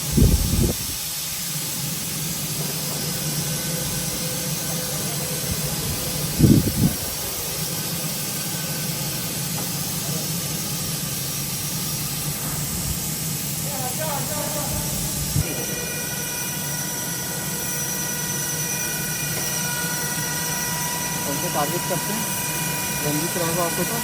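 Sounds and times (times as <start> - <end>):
hiss: 0.0 - 24.0
industrial hum: 0.0 - 24.0.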